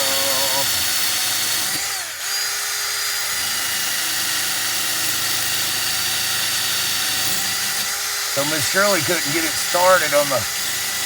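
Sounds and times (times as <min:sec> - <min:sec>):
power tool high whine: 0:00.0 - 0:11.0.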